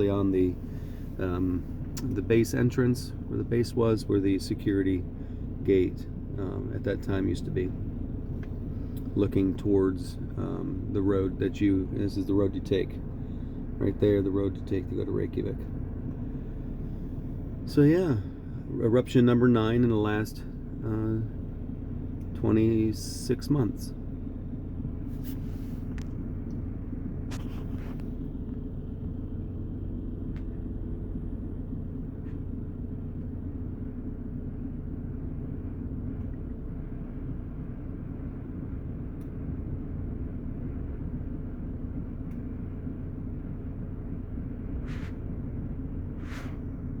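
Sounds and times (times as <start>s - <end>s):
vehicle idling rumble: 0.0s - 47.0s.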